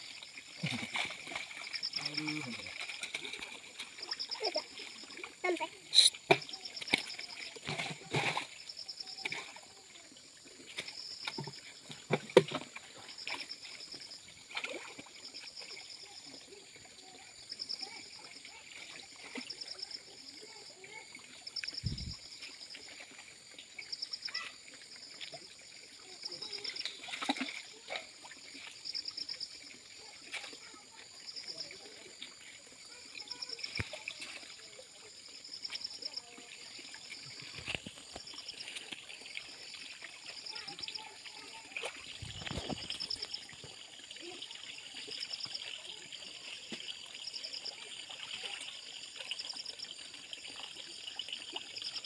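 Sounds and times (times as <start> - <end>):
water splashing and sloshing: 0.0 - 52.0.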